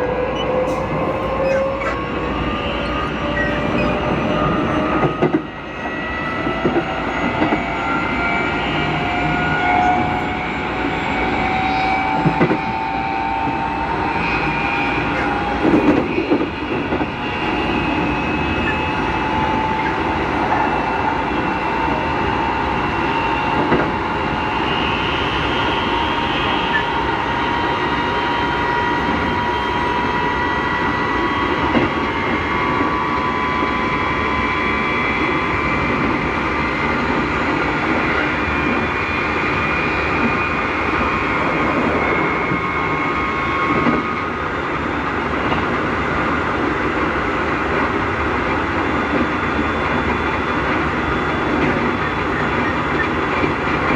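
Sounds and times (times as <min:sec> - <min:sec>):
wheels rumbling on rail: 0:00.0 - 0:53.9.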